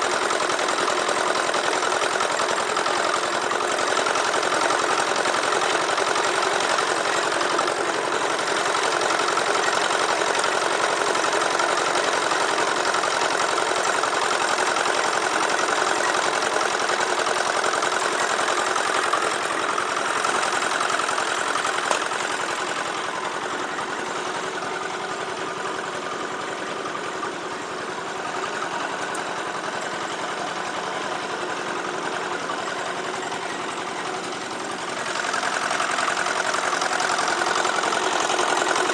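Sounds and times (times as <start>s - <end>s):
diesel concrete mixer engine running: 0.0s - 38.9s.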